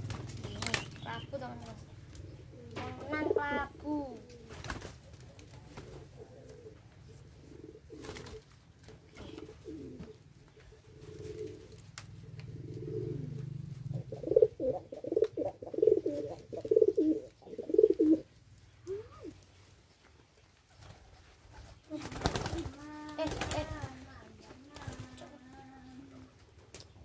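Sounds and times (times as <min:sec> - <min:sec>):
pigeons cooing: 0:00.0 - 0:19.7, 0:20.6 - 0:27.0.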